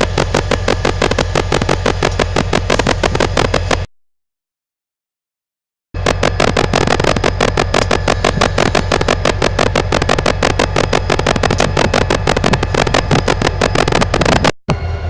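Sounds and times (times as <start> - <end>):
locomotive engine pulsing hum: 0.0 - 3.9, 6.0 - 15.0.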